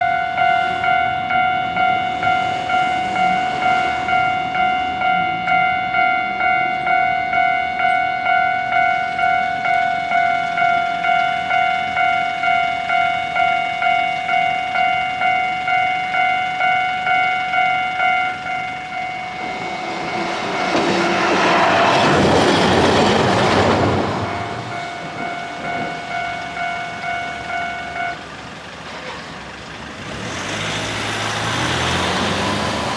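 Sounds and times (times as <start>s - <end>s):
railway crossing warning bell: 0.0s - 32.9s
tram passing: 0.0s - 32.9s.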